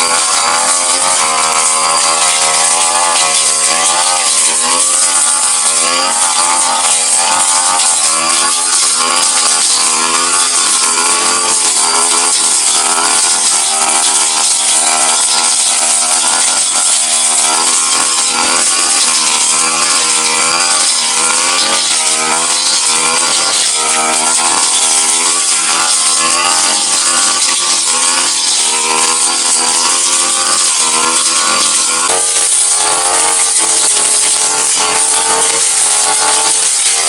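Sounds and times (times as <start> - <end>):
brush cutter engine high revs: 0.0 - 37.0
steel blade cutting grass: 0.0 - 37.0.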